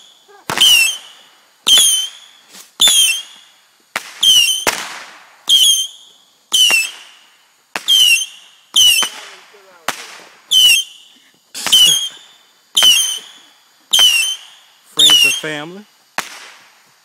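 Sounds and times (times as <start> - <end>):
falling rocket whistle: 0.0 - 7.2, 7.8 - 9.3, 10.5 - 15.7.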